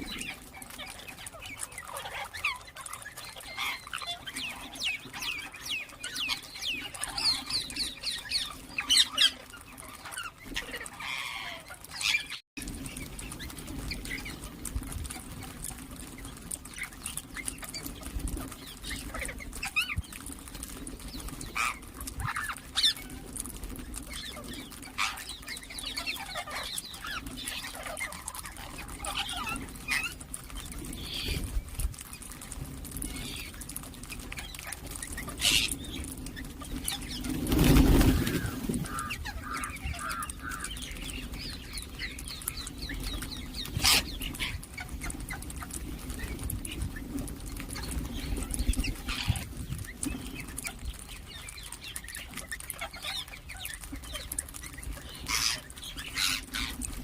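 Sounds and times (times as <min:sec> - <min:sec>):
parakeets chirping and calling: 0:00.0 - 0:57.0.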